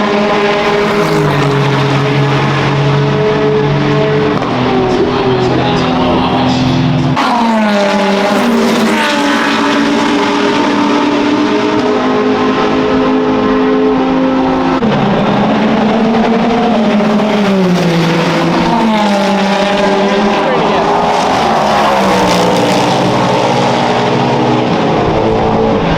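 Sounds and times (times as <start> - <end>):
racing car engine downshifting: 0.0 - 25.9.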